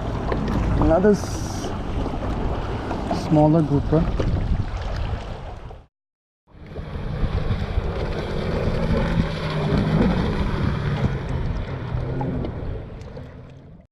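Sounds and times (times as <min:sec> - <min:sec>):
water sloshing against kayak: 0:00.0 - 0:05.9, 0:06.6 - 0:13.8
wind rumbling on microphone: 0:00.0 - 0:05.9, 0:06.5 - 0:13.8.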